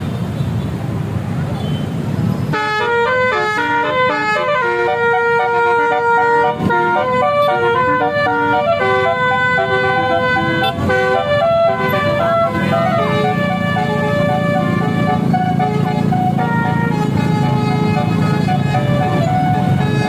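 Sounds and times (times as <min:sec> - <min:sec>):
multi-tone bus air horn melody: 0:02.5 - 0:20.0.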